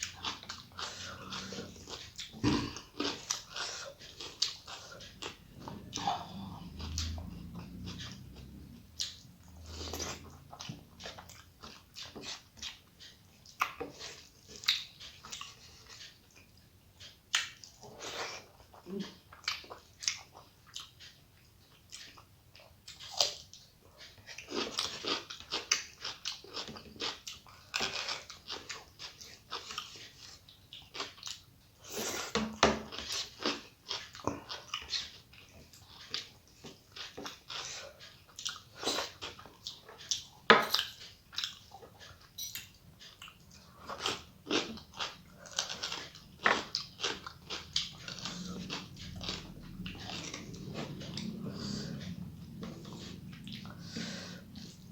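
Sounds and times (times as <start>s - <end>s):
person chewing food: 0.0s - 54.9s.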